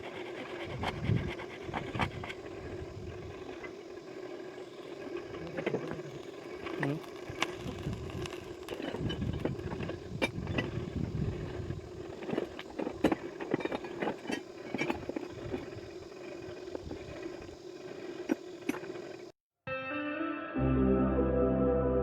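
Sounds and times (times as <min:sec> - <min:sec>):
steady motor hum: 0:00.0 - 0:19.3.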